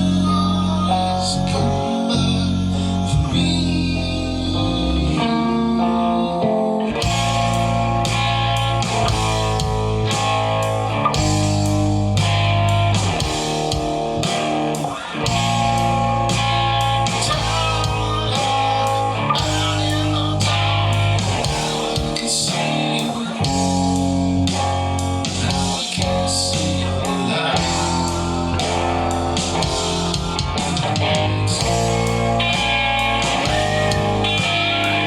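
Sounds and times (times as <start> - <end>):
rock music with guitars and bass: 0.0 - 35.0.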